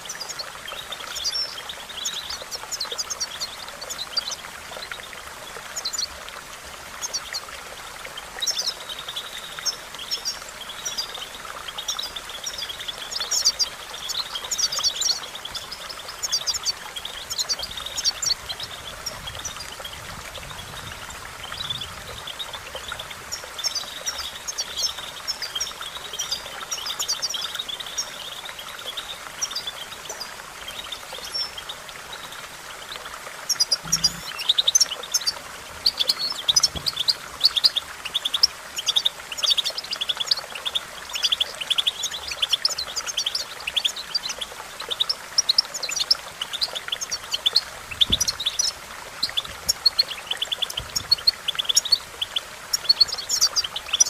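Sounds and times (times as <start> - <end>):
goldfinch twittering: 8.2 - 54.0.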